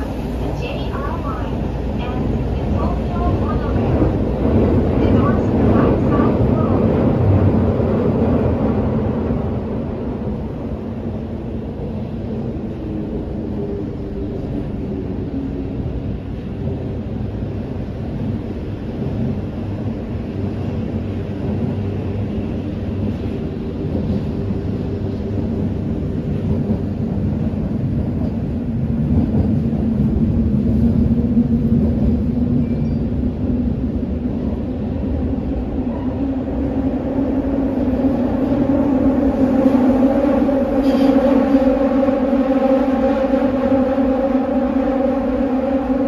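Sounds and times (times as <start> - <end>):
subway car wheels rumbling on track: 0.0 - 46.0.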